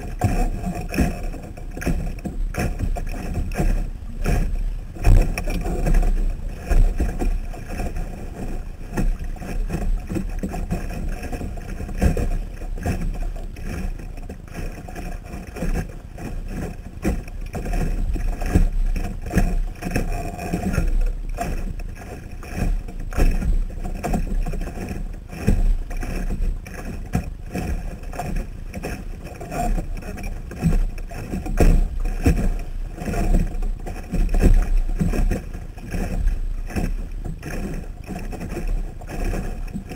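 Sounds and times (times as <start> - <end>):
knocks on boat: 0.0 - 14.4, 15.6 - 39.9
water slapping against boat hull: 0.0 - 39.9.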